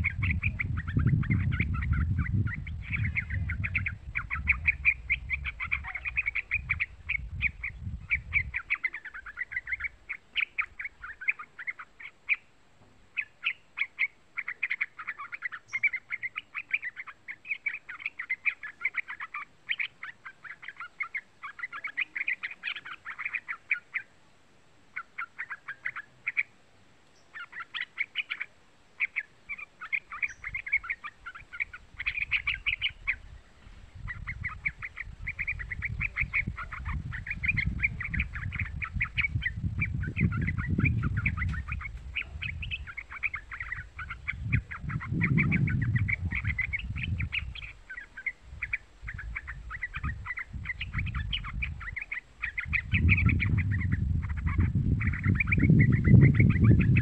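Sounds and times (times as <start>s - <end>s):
bird chattering song: 0.0s - 24.2s, 24.9s - 57.0s.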